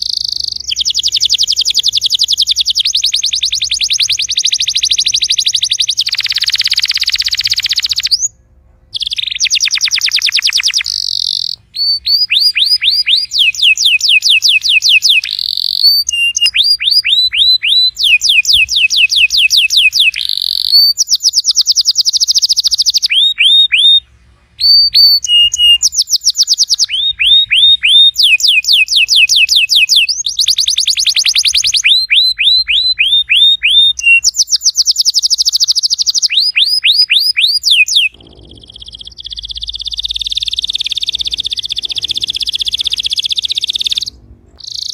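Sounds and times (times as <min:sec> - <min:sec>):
canary singing rapid trills: 0:00.0 - 0:08.4, 0:09.0 - 0:44.9.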